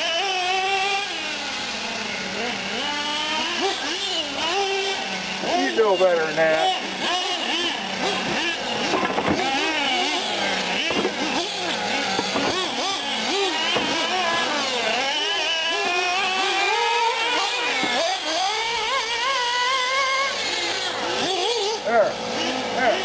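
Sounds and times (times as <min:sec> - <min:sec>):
model truck engines whining: 0:00.0 - 0:23.0.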